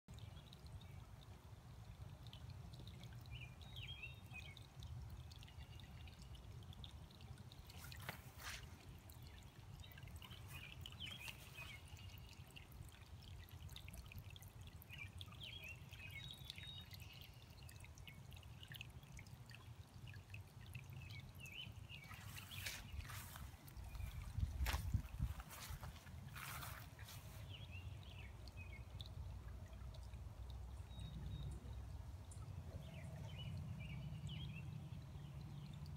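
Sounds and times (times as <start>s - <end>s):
water trickling: 0.1s - 35.9s.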